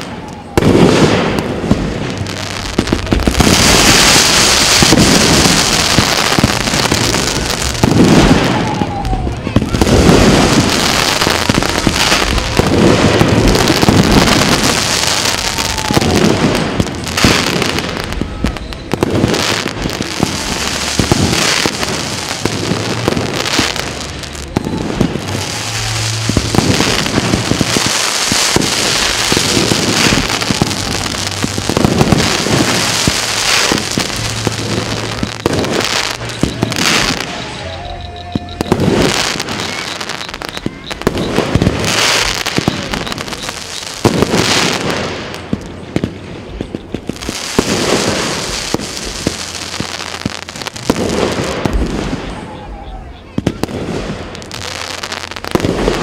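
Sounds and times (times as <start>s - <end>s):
firework whistles: 0.0s - 56.0s
fireworks bangs and crackles: 0.0s - 56.0s.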